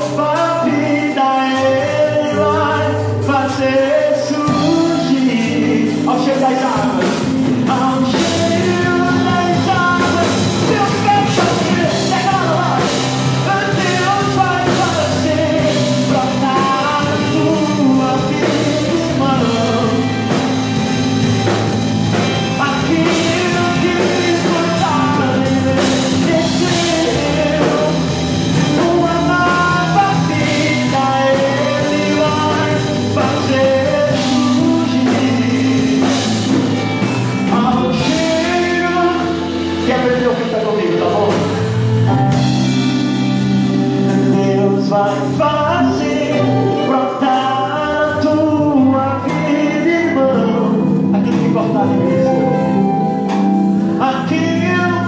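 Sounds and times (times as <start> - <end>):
drum kit: 0.0 - 55.0
keyboard: 0.0 - 55.0
worship band playing rock song: 0.0 - 55.0.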